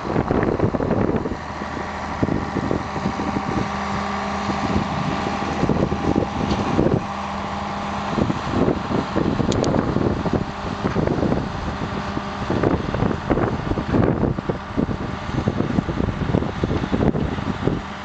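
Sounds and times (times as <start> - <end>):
diesel engine running: 0.0 - 18.0
wind buffeting microphone: 0.0 - 18.0.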